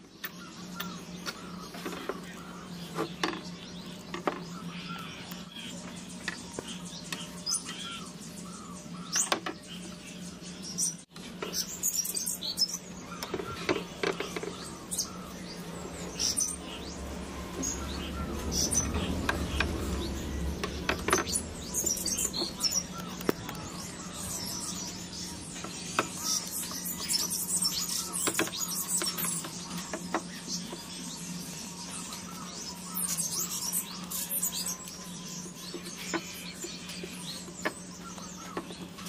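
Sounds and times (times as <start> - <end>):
birds chirping: 0.0 - 39.0
steady low hum: 0.0 - 39.0.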